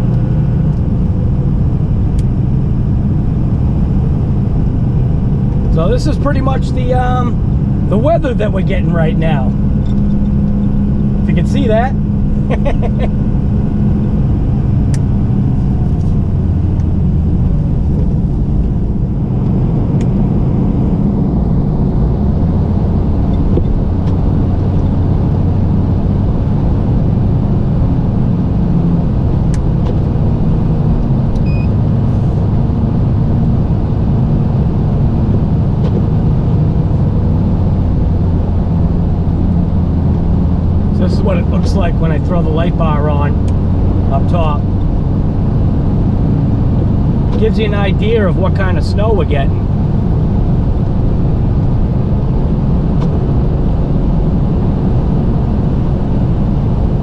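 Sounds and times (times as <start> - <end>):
road noise: 0.0 - 57.0
truck engine rumble: 0.0 - 57.0.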